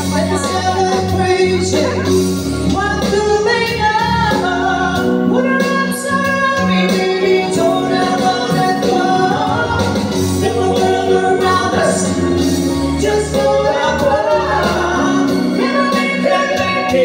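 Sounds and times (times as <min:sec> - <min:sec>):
instrumental accompaniment: 0:00.0 - 0:17.0
woman singing into microphone: 0:02.7 - 0:17.0.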